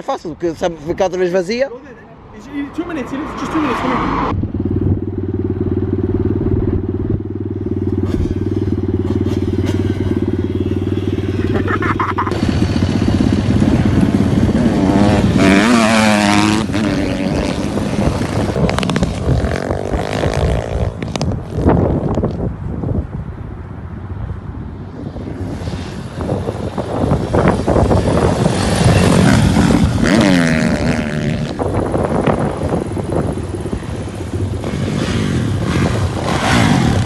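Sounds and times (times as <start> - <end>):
motorbike engine idling and revving: 2.8 - 23.1, 24.5 - 37.0.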